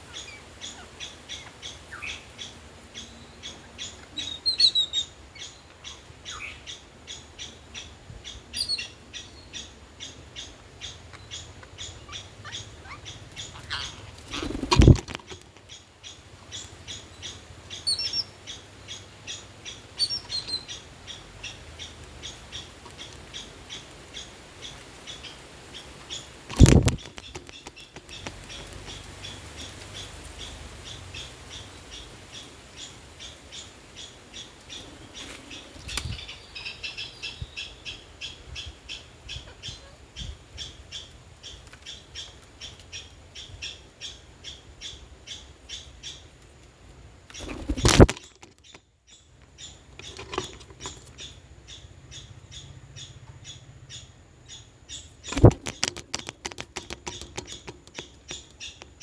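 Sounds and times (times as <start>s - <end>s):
birds chirping: 0.0s - 46.4s, 47.3s - 59.0s.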